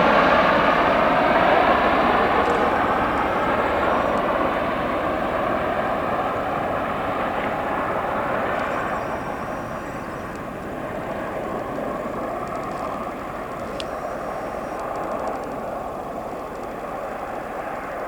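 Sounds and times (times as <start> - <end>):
aircraft engines and rotors running: 0.0 - 18.0.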